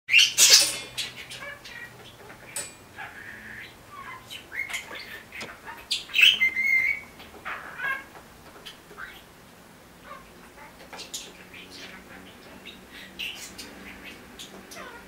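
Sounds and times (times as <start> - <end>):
budgerigar chirping and chattering: 0.1 - 9.4, 10.0 - 15.0.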